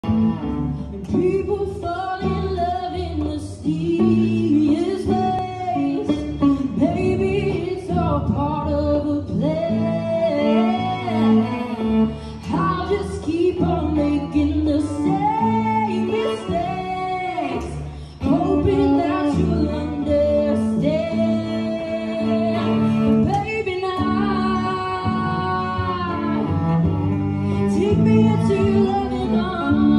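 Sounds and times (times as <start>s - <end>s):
electric cello low notes: 0.0s - 29.9s
woman singing: 1.0s - 26.8s, 27.4s - 29.9s.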